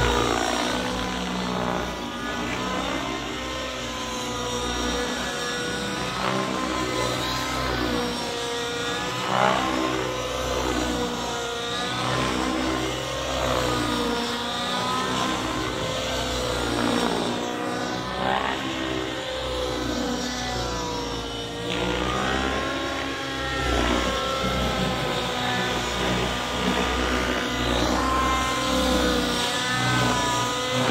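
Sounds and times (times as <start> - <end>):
model helicopter engine and rotor whine: 0.0 - 30.9.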